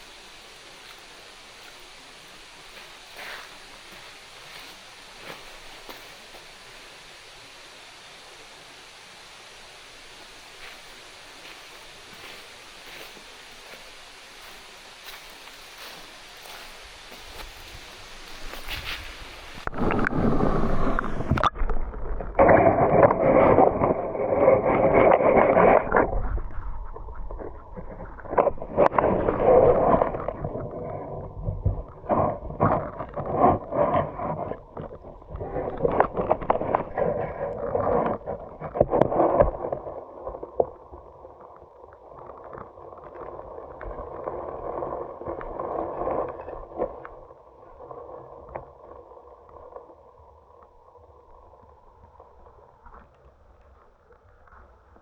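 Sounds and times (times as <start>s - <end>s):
stream water splashing: 0.0s - 48.1s
running water flowing: 0.0s - 55.0s.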